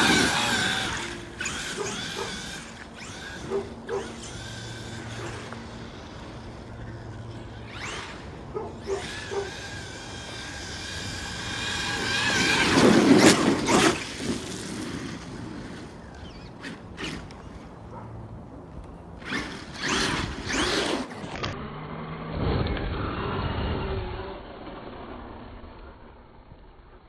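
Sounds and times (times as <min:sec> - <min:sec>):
electric motor whine: 0:00.0 - 0:25.5.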